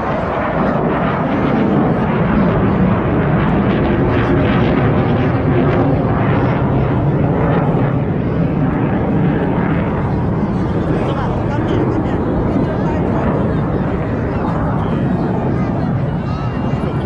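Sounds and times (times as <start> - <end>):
aircraft engine rushing: 0.0 - 17.0.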